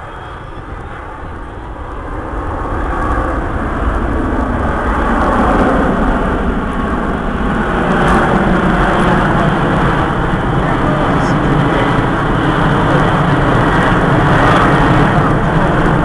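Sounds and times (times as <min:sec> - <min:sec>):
jet engines roaring overhead: 0:00.0 - 0:16.0.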